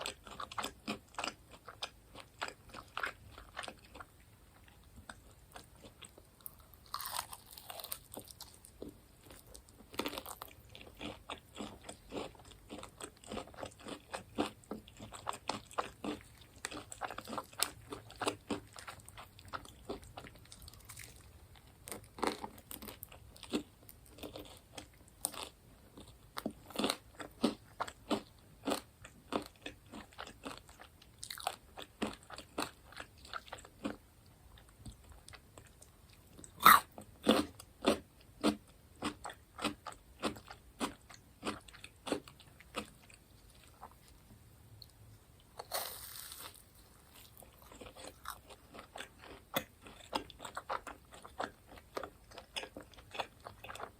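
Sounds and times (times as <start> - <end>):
crunchy food bites and chewing: 0.0 - 44.2, 45.6 - 53.9.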